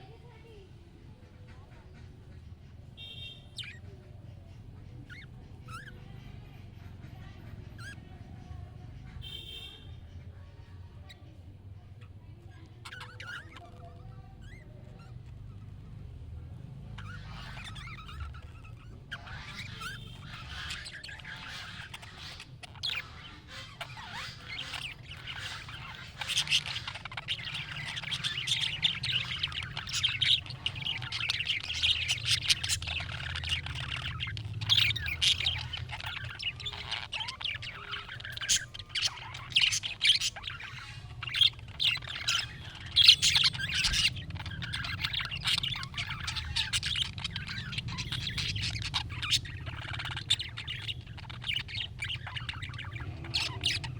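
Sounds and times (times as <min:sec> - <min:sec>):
budgerigar chatter: 0:00.0 - 0:53.9.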